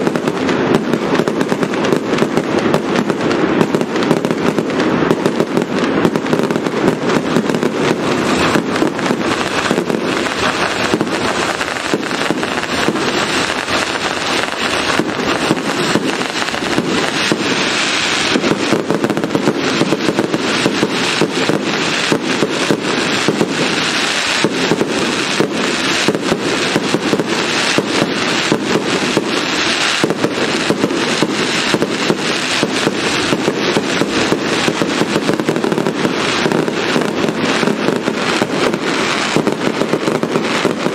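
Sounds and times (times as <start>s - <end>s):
fireworks bursts and crackling: 0.0s - 40.9s.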